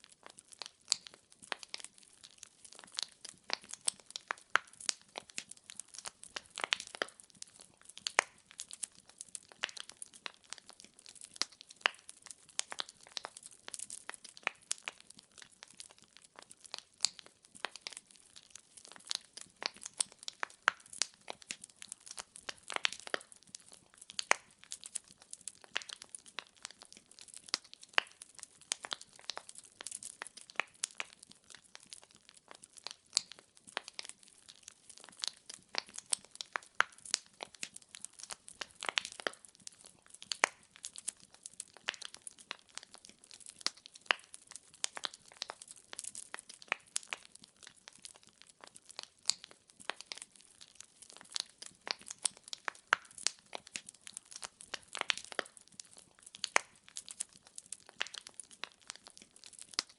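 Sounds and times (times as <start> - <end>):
firewood crackling in fireplace: 0.0 - 59.9.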